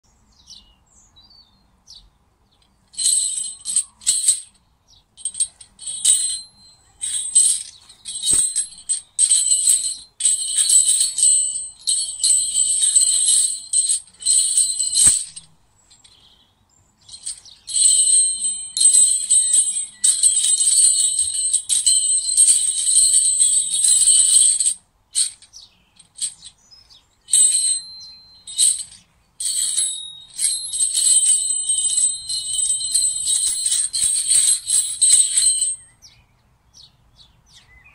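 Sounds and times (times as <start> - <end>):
iron rings jangling: 2.6 - 4.6, 5.2 - 16.3, 17.0 - 35.9.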